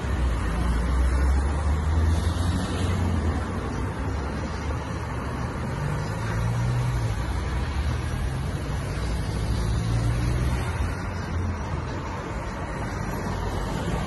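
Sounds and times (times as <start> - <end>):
cars and vans driving: 0.0 - 14.0.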